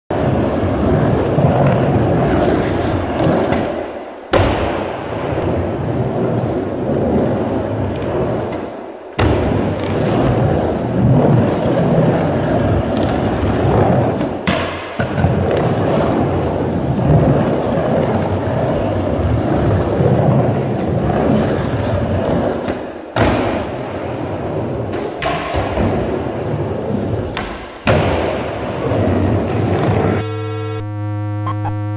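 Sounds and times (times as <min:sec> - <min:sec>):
skateboard wheels rolling on concrete: 0:00.1 - 0:30.2.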